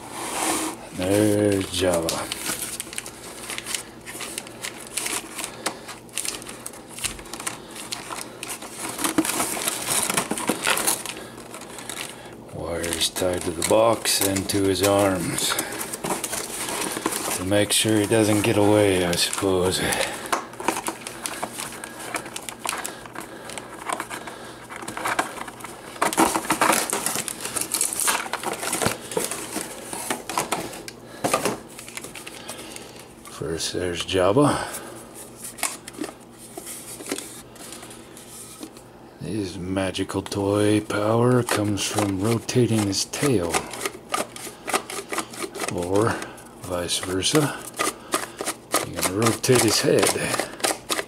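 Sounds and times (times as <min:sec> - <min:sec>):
cardboard packaging being handled: 0:00.0 - 0:33.3, 0:34.2 - 0:38.8, 0:40.3 - 0:51.0.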